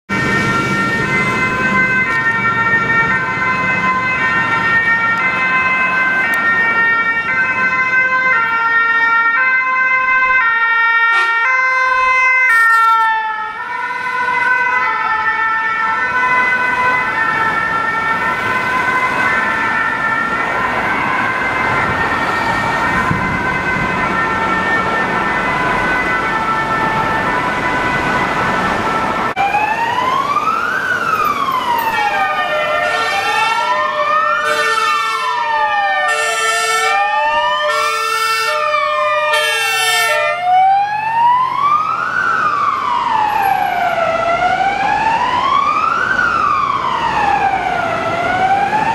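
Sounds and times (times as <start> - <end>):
city traffic noise: 0.0 - 48.9
ambulance two-tone siren: 0.1 - 48.9.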